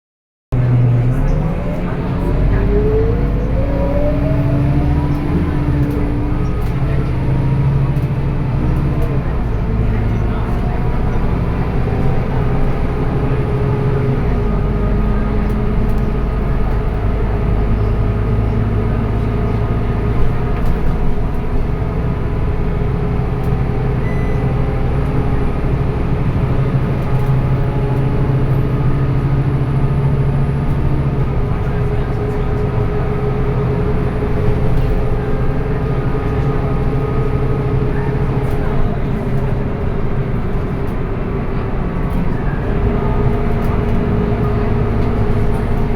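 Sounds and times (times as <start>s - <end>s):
bus diesel engine under load: 0.5s - 45.9s.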